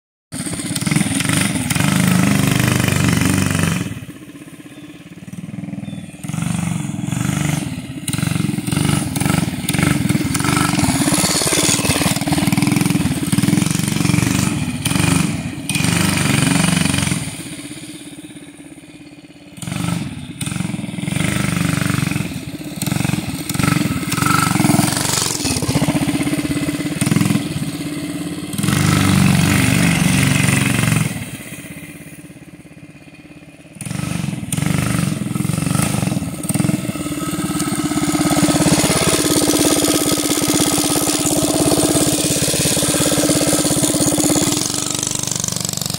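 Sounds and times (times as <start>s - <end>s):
mini bike engine revving: 0.4s - 45.9s.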